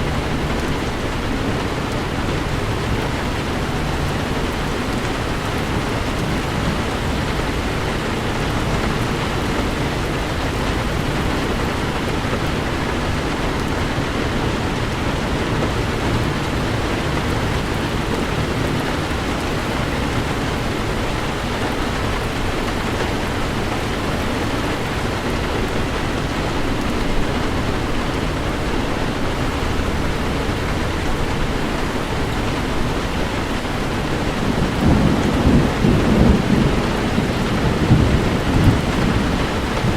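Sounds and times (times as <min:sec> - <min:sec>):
heavy rain on a vehicle: 0:00.0 - 0:39.9
road noise: 0:00.0 - 0:39.9.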